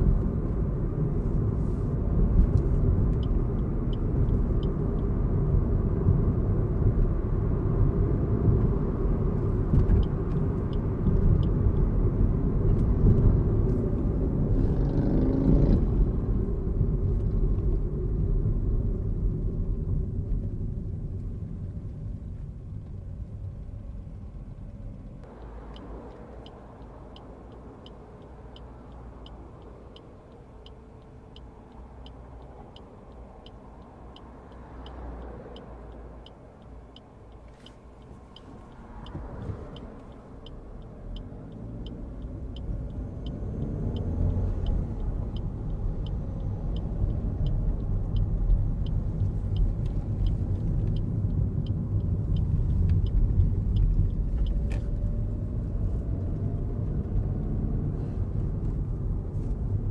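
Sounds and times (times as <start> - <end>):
car engine and road rumble: 0.0 - 59.9
turn signal ticking: 0.0 - 59.9.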